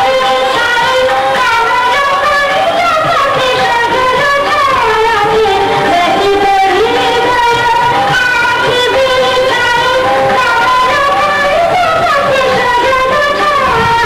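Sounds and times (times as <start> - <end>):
instrumental accompaniment: 0.0 - 14.0
person singing long wavering notes: 0.0 - 14.0.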